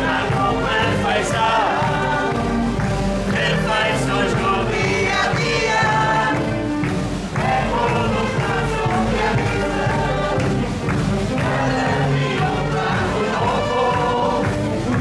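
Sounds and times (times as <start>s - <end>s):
band accompaniment: 0.0s - 15.0s
group singing in chorus: 0.0s - 15.0s.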